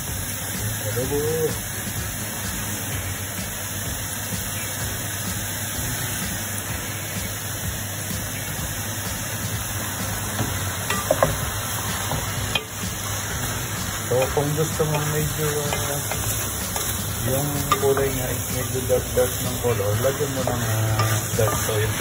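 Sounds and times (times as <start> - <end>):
meat sizzling in hot oil: 0.0 - 22.0.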